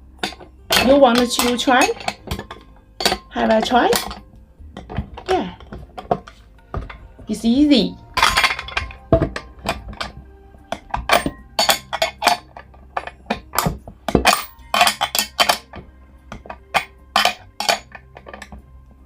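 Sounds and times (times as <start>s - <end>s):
metal parts clinking together: 0.2s - 7.0s, 8.1s - 18.7s.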